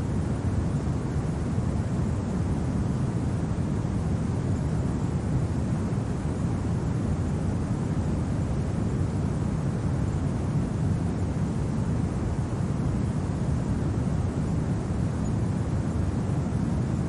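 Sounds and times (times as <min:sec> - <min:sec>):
low rumbling wind: 0:00.0 - 0:17.0.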